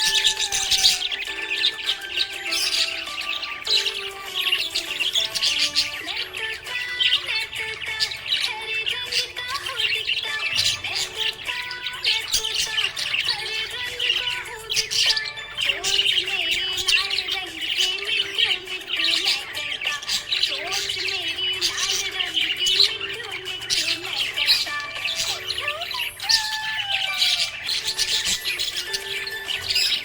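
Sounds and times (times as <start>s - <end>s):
budgerigars chirping and chattering: 0.0s - 30.0s
faint music: 0.0s - 30.0s.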